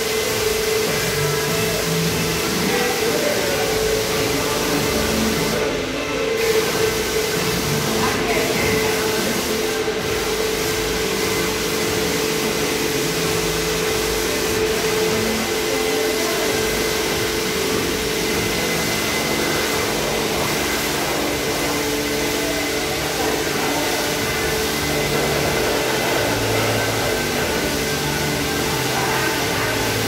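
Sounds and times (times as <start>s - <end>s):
pump motor hum: 0.0s - 30.0s
water jet spraying car: 0.0s - 30.0s.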